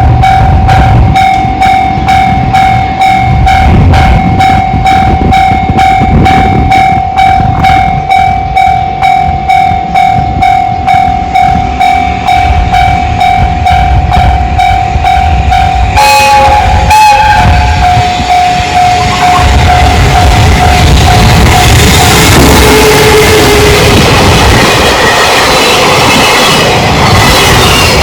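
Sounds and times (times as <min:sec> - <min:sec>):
train rumbling past: 0:00.0 - 0:28.0
level crossing alarm ringing: 0:00.1 - 0:26.5.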